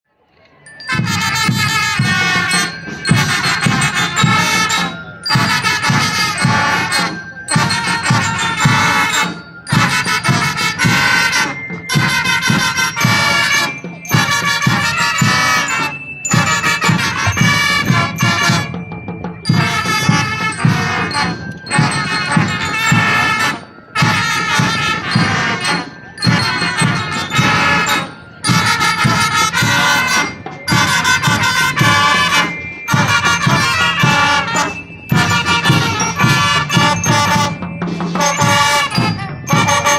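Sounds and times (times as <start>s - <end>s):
marching band playing: 0.7s - 39.9s
steady drum beat: 0.9s - 39.9s.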